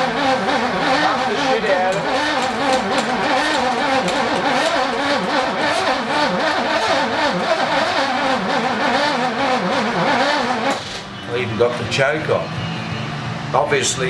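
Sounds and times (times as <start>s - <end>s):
car engine cranking and stumbling: 0.0s - 11.9s.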